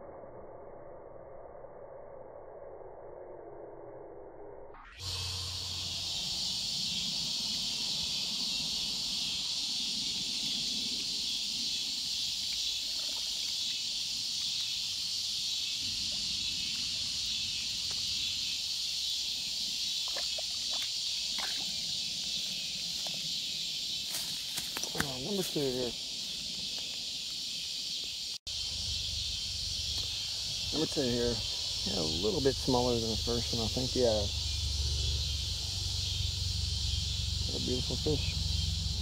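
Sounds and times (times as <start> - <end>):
high-pitched insect chorus: 4.8 - 39.0.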